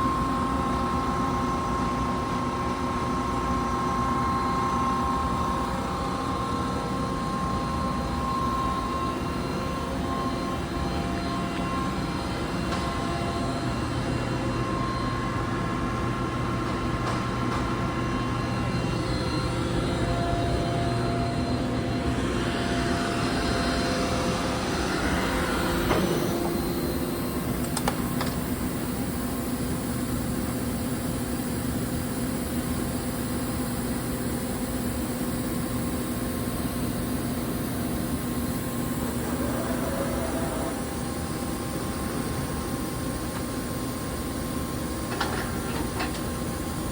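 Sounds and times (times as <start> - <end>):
lathe machine hum: 0.0 - 31.8, 35.8 - 46.9.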